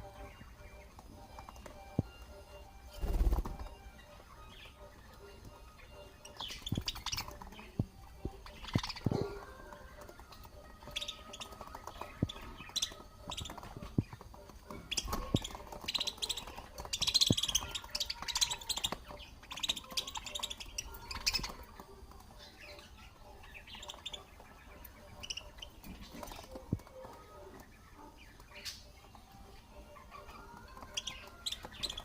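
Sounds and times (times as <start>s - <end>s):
budgerigars chirping and squawking: 0.0s - 32.0s.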